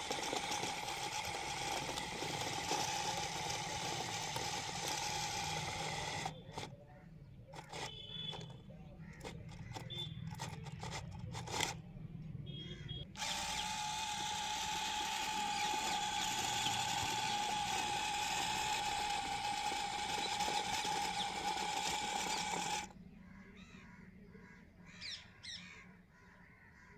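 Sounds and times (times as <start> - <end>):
small motor whining: 0.0 - 11.9, 12.5 - 23.0.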